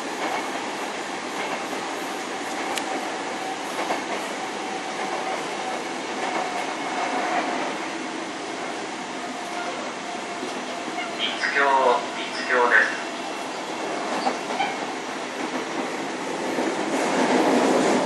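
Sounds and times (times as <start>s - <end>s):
train wheels rolling on track: 0.0s - 18.0s.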